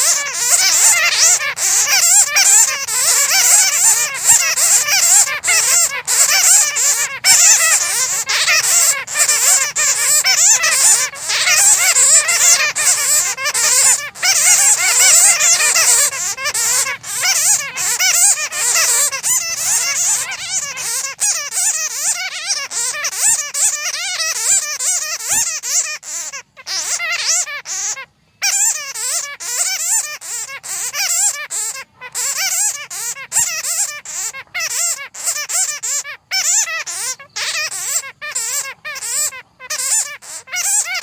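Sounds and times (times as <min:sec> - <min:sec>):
bats squeaking and chattering: 0:00.0 - 0:41.0.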